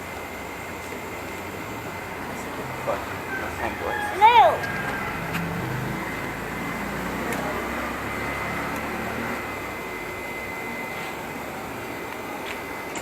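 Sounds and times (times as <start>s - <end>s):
shop vacuum whirring: 0.0s - 13.0s.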